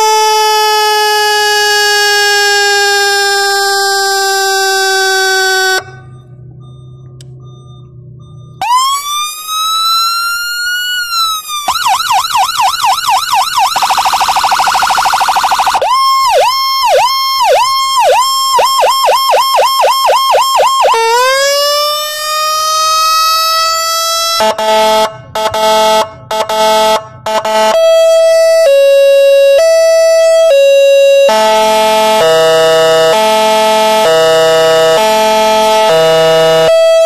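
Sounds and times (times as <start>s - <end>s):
electronic siren: 0.0s - 37.0s.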